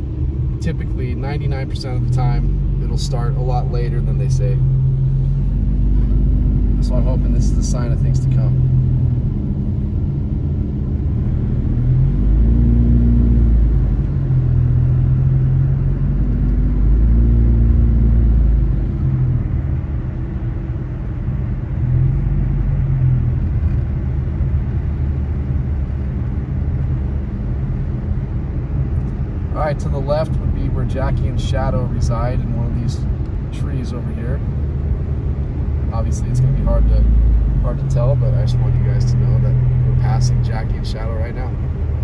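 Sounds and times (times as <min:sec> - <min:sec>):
car engine and road drone: 0:00.0 - 0:42.0.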